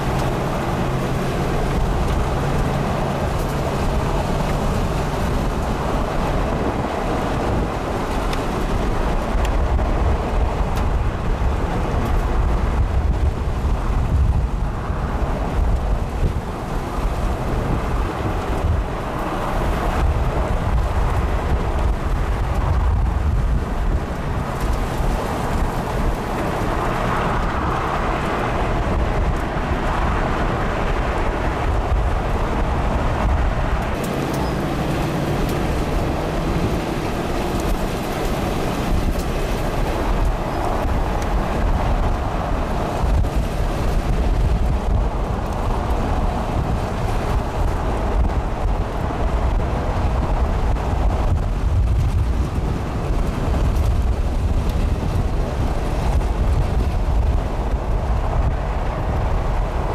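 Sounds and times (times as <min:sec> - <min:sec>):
strong wind on microphone: 0:00.0 - 0:59.9.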